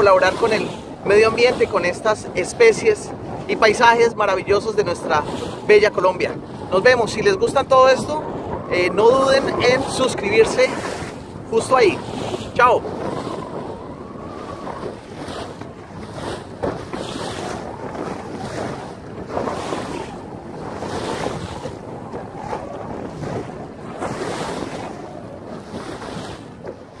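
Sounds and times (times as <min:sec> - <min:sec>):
waves splashing against boat: 0:00.0 - 0:27.0
wind buffeting microphone: 0:00.0 - 0:27.0.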